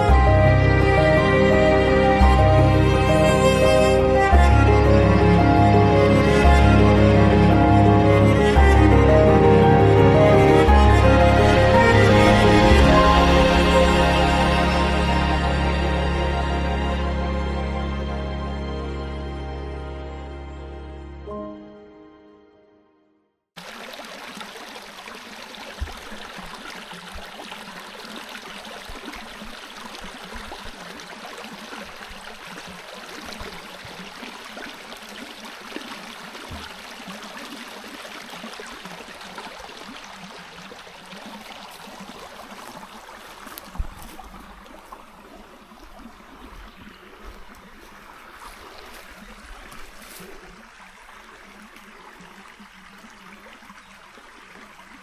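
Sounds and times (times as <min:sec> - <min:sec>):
stream water babbling: 0:00.0 - 0:18.0, 0:23.6 - 0:55.0.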